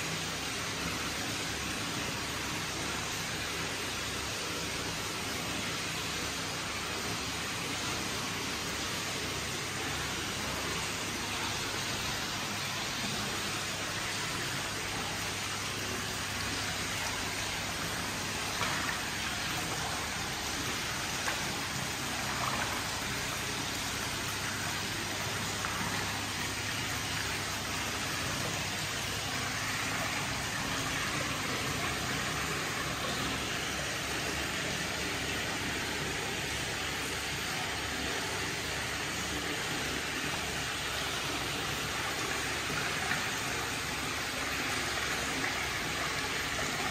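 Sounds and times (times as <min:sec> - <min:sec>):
small water splashes: 0:00.1 - 0:46.9
water pouring into stone bath: 0:09.1 - 0:46.9.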